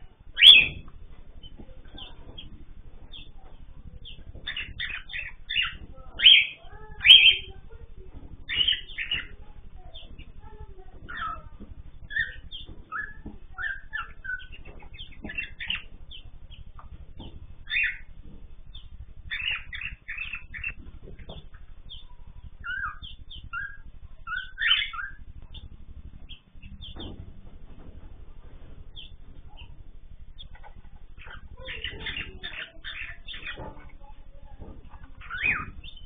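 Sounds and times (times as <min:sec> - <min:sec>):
birds chirping: 0:00.0 - 0:36.0
low steady hum: 0:00.0 - 0:36.0.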